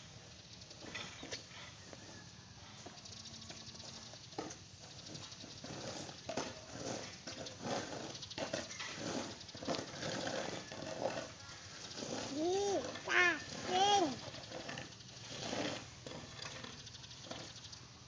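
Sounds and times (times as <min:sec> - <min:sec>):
rake scraping through grain: 0:00.0 - 0:18.0.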